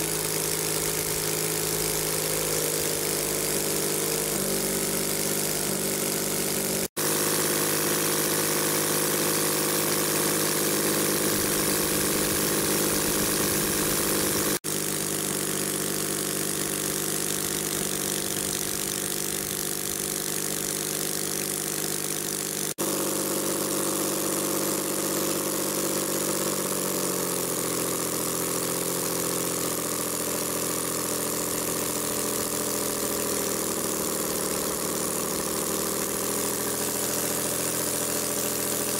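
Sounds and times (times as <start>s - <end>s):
small radial engine running: 0.0s - 38.9s.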